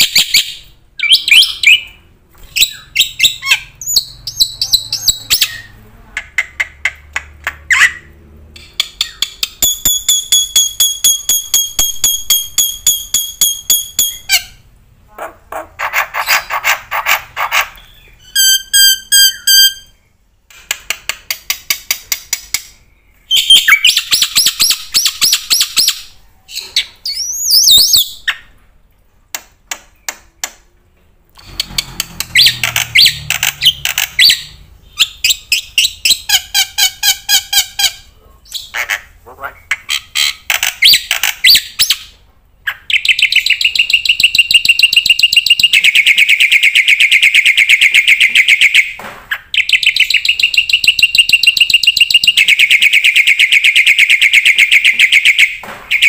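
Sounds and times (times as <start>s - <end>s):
bird chirps and trills: 0.0s - 20.2s, 21.5s - 28.6s, 31.4s - 56.0s.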